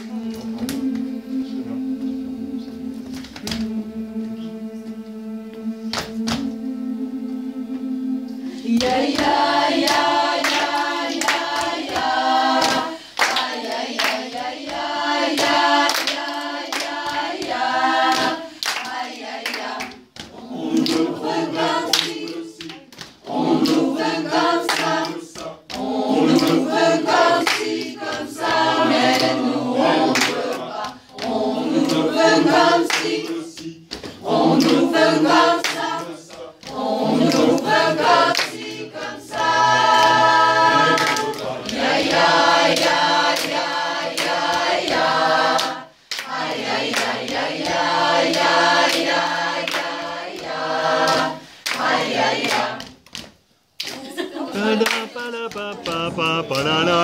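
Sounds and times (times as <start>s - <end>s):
hand claps: 0.0s - 1.1s, 3.0s - 3.7s, 5.9s - 6.5s, 8.7s - 57.0s
mixed choir singing a cappella: 0.0s - 57.0s.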